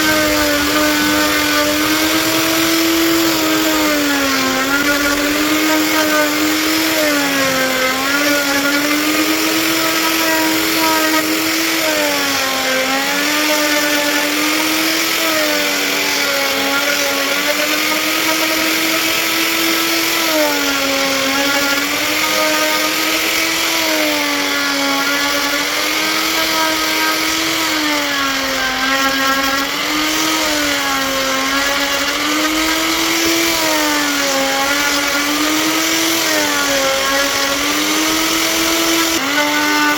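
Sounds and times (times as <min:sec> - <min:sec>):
power tool cutting wood: 0:00.0 - 0:39.9.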